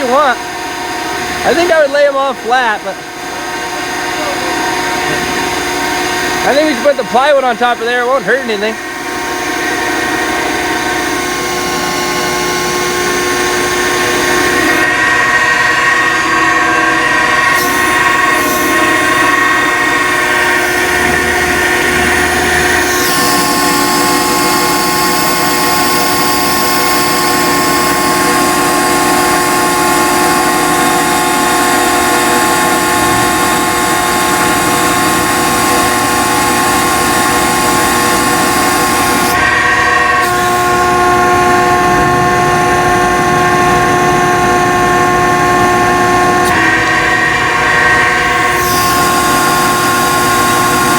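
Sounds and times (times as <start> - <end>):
steady machine drone: 0.0 - 50.9.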